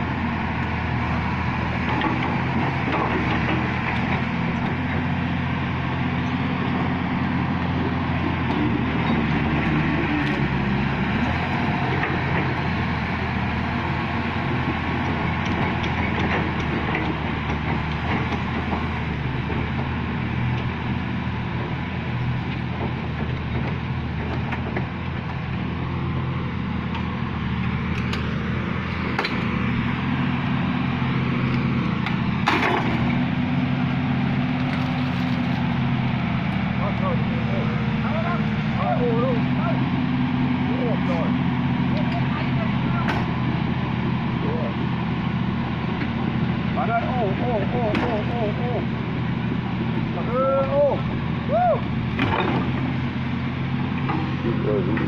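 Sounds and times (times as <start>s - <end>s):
heavy machine engine running: 0.0s - 55.0s.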